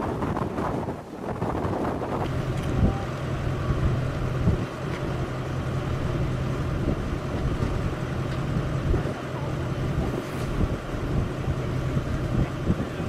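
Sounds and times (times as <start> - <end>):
outdoor noise: 0.0 - 13.0
vehicle engine idling: 2.1 - 13.0.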